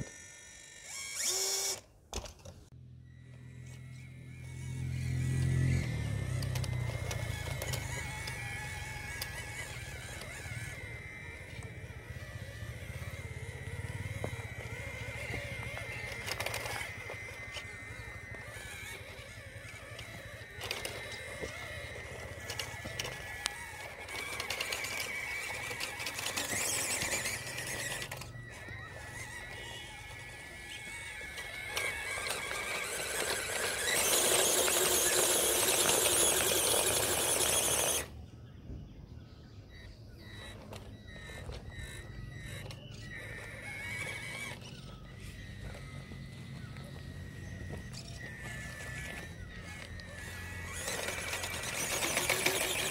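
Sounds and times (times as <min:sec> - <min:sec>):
toy truck motor whining: 0:00.0 - 0:52.9.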